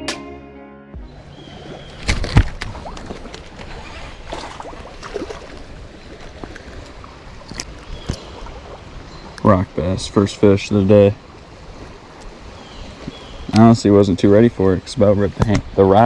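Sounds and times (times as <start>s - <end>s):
river water sloshing: 1.0s - 14.5s.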